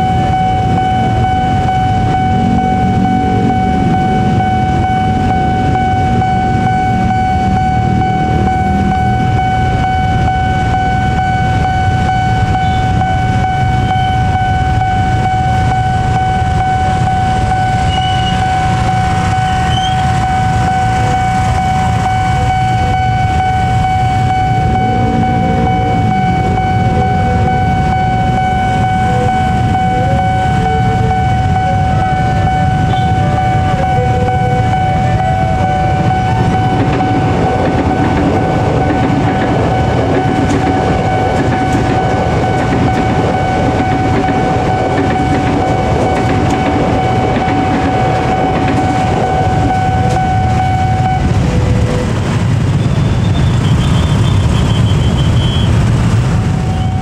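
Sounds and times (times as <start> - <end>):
crossing alarm high tone: 0.0 - 57.0
idling engines rumble: 0.0 - 57.0.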